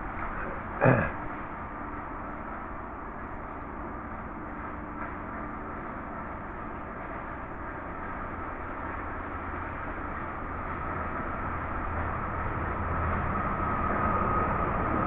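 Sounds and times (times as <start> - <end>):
mower engine drone: 0.0 - 15.0.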